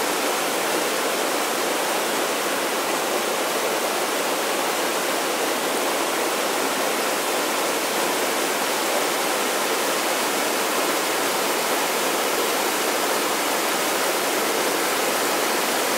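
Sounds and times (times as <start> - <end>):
river water rushing over boulders: 0.0 - 15.9.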